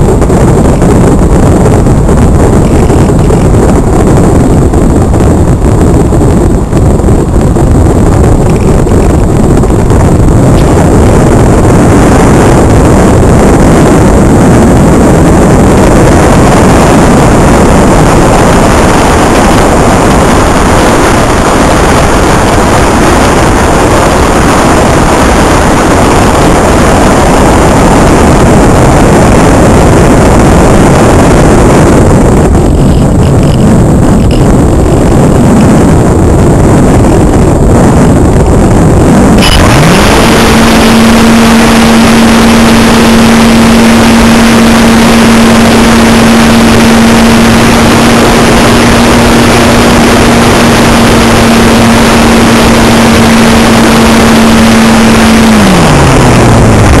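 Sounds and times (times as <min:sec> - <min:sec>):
electric motor and propeller whine: 0:00.0 - 0:57.0
wind rush over microphone: 0:00.0 - 0:57.0.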